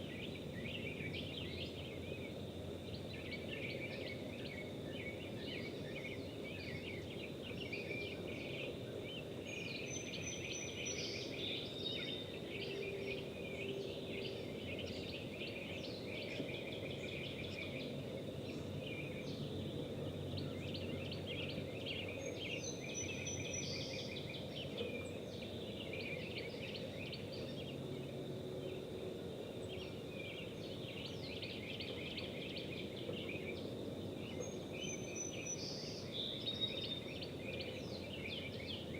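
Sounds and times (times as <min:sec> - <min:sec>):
birds chirping and singing: 0:00.1 - 0:38.9.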